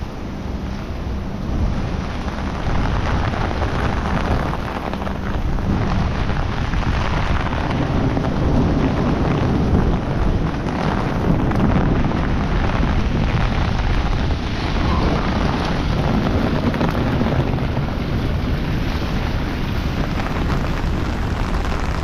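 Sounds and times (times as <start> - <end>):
heavy rain pouring: 0.0 - 22.0
wind buffeting microphone: 0.0 - 22.0.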